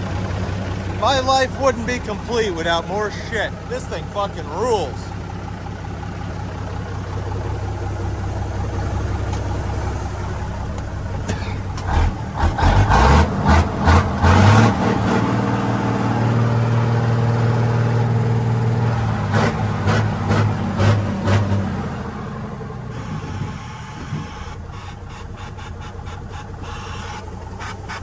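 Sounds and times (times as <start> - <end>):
diesel engine idling and revving: 0.0 - 28.0.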